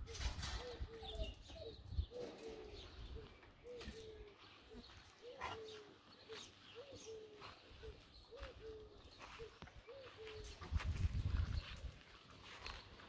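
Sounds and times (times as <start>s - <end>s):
dove cooing: 0.0s - 10.8s
small birds chirping: 0.0s - 13.0s.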